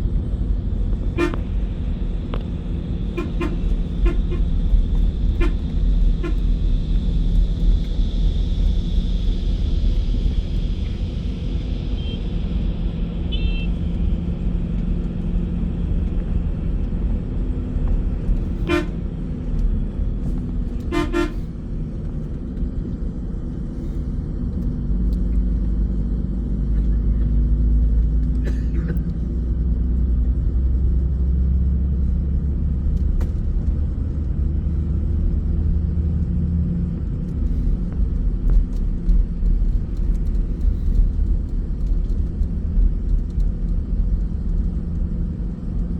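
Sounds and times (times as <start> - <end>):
bus rumbling on road: 0.0 - 45.9.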